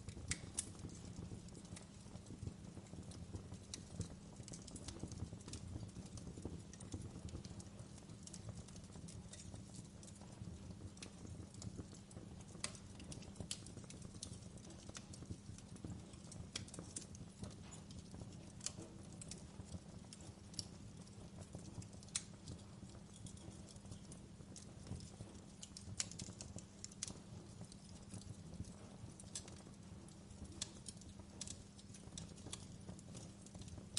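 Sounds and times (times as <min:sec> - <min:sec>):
burning wood crackling and popping: 0:00.0 - 0:33.9
low rumble of flames: 0:00.0 - 0:33.9.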